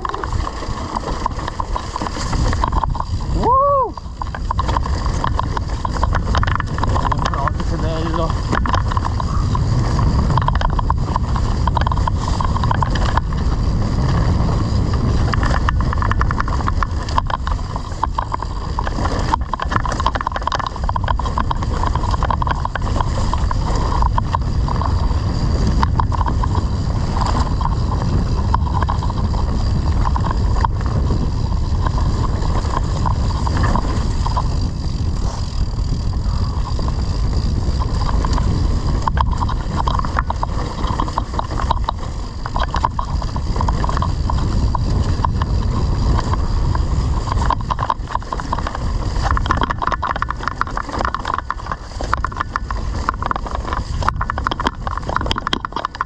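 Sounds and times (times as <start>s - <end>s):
bike knocks and rattles: 0.0s - 56.0s
wind rumbling on microphone: 0.0s - 56.0s.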